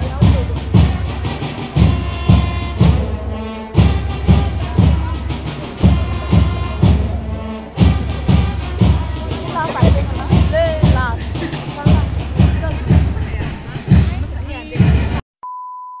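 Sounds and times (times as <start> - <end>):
bass drum beat: 0.0 - 15.2
brass band playing: 0.0 - 15.2.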